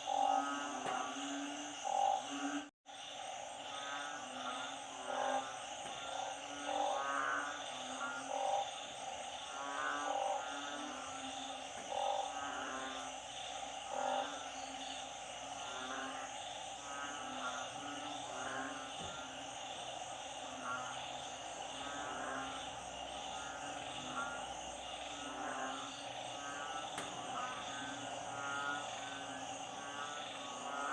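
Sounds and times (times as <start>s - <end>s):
frogs and toads calling: 0.0s - 30.9s.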